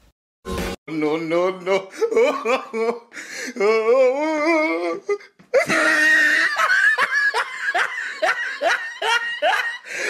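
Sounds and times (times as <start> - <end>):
person laughing hard: 1.7 - 10.0.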